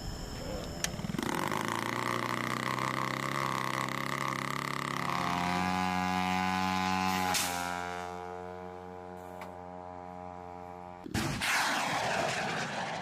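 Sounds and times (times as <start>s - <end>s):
helicopter droning hum: 0.0s - 13.0s.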